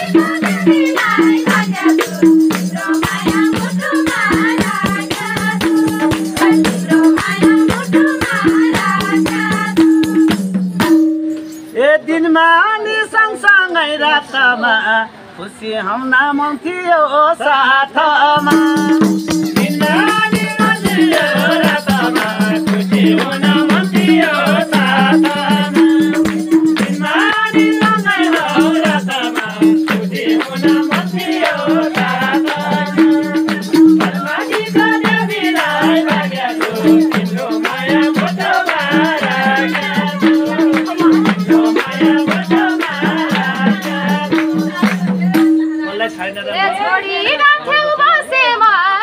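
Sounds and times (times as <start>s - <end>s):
voices singing: 0.0s - 11.0s, 11.8s - 49.0s
hand drum beat: 0.0s - 11.8s, 18.4s - 46.2s
tambourine jingles: 0.0s - 11.9s, 18.4s - 46.4s.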